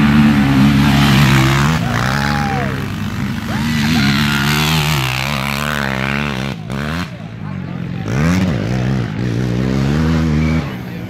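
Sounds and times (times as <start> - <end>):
atv engines running hard: 0.0 - 11.0.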